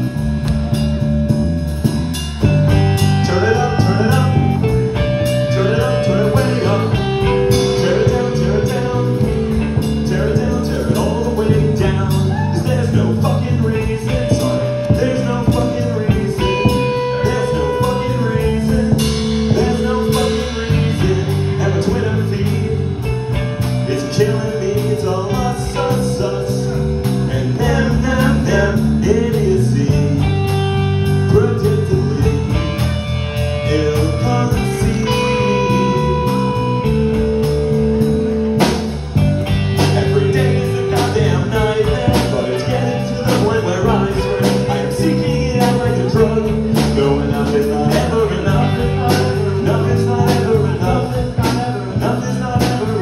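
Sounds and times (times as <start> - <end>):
rock band playing live: 0.0 - 53.0.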